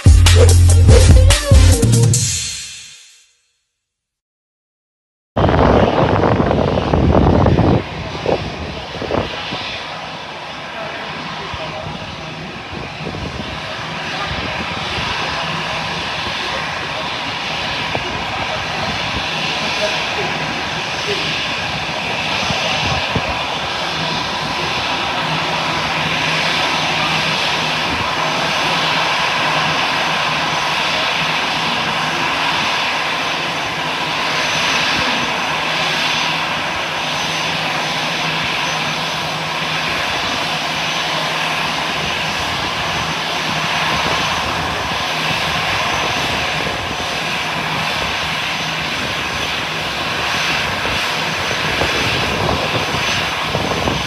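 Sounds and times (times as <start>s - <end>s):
aircraft engines running: 5.4s - 54.0s.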